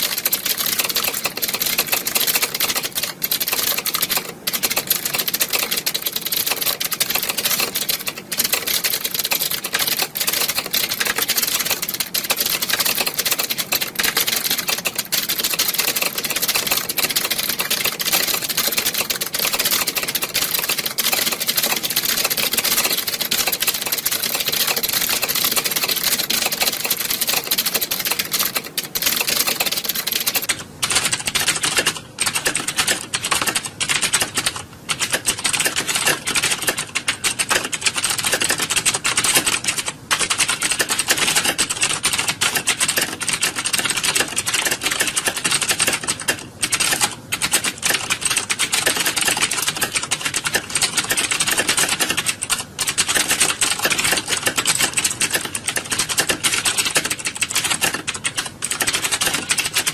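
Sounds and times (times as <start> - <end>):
keyboards clattering: 0.0 - 59.9.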